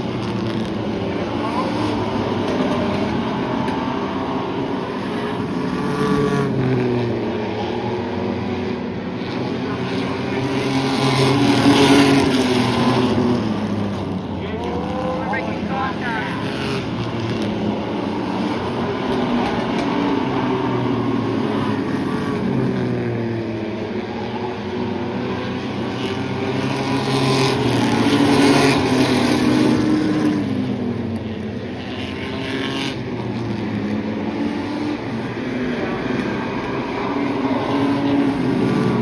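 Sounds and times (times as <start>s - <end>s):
racing truck engines passing: 0.0s - 39.0s.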